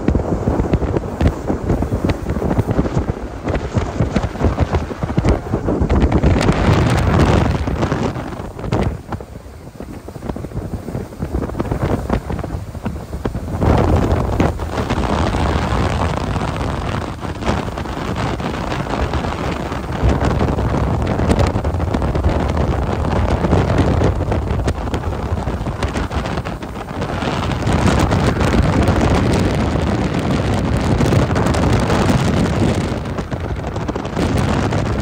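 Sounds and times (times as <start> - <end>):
motorboat engine: 0.0 - 35.0
rush of boat wake: 0.0 - 35.0
wind buffeting microphone: 0.0 - 35.0.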